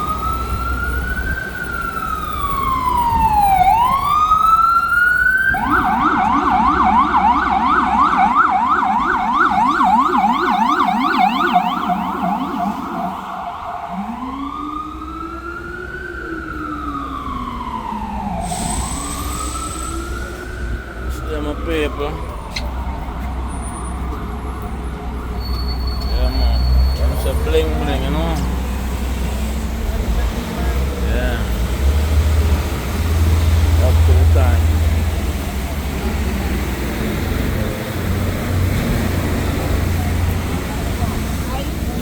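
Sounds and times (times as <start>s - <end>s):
emergency vehicle siren: 0.0s - 42.0s
low traffic rumble: 0.0s - 42.0s.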